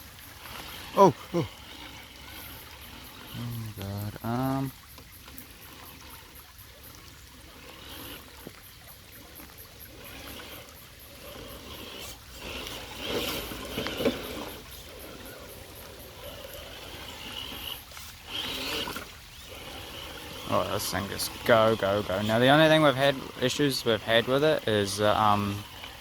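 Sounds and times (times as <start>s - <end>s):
toy car driving through water: 0.0s - 26.0s
water splashing and trickling: 0.0s - 26.0s.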